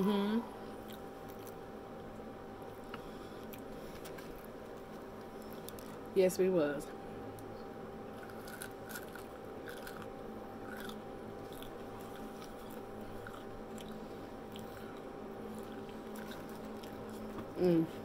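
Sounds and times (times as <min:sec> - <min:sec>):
chewing with soft crunches: 0:00.6 - 0:06.1, 0:07.3 - 0:17.6.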